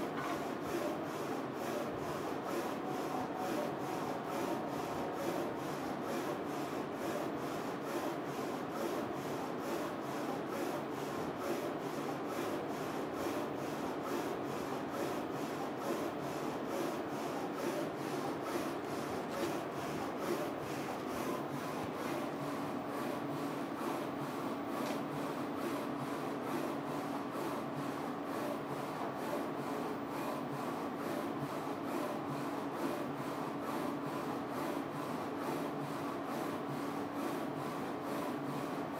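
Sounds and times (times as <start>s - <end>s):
steady hum: 0.0s - 32.7s.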